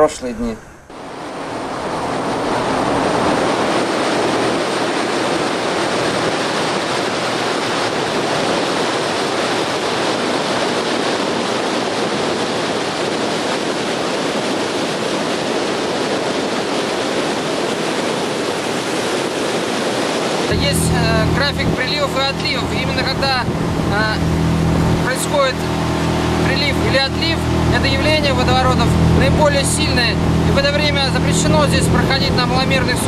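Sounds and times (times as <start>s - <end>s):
water rushing: 0.0s - 33.0s
wind: 0.0s - 33.0s.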